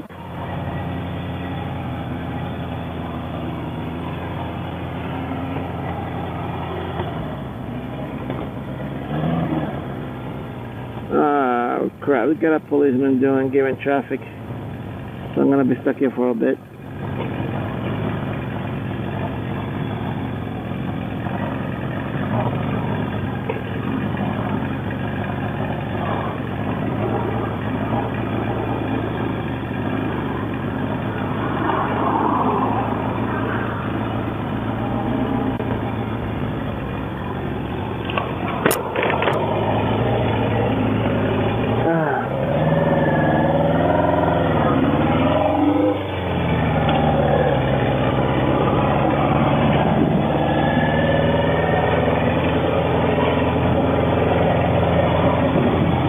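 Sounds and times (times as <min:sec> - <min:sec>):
motorcycle engine idling: 0:00.0 - 0:09.1, 0:09.8 - 0:32.0, 0:32.8 - 0:45.1, 0:46.0 - 0:50.3
traffic noise: 0:00.0 - 0:56.0.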